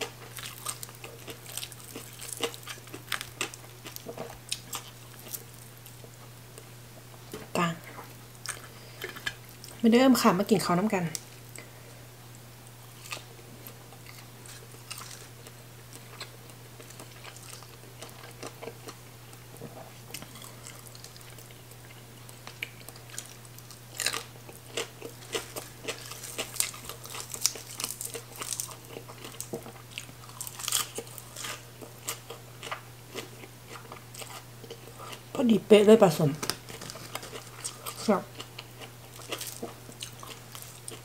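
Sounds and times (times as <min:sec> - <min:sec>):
chewing and crunching food: 0:00.0 - 0:09.8, 0:12.8 - 0:35.4, 0:36.4 - 0:41.0
steady low hum: 0:00.0 - 0:41.0.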